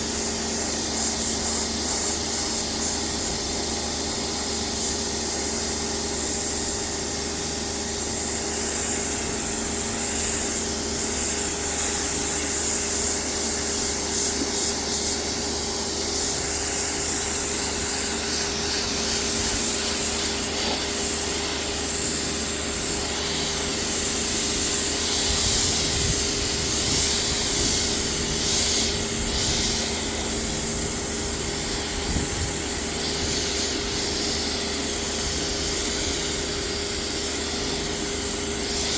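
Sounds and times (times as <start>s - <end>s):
pressure washer jet hissing: 0.0s - 38.9s.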